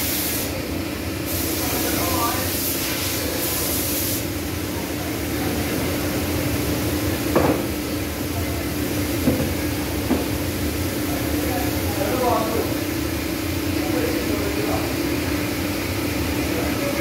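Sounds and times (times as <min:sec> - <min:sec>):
factory hum: 0:00.0 - 0:17.0.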